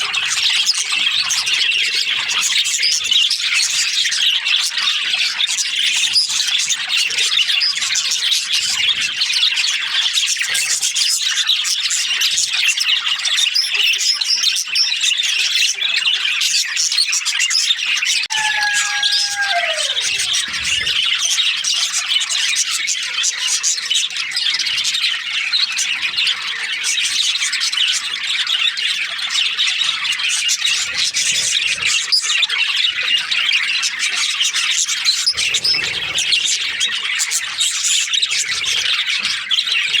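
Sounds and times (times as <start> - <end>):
budgerigars chattering and squawking: 0.0 - 40.0.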